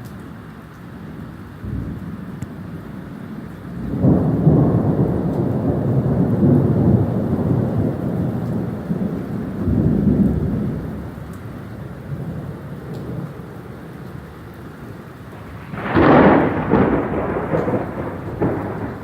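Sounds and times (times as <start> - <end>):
steady rain: 0.0 - 19.0
thunder rumbling: 1.6 - 19.0.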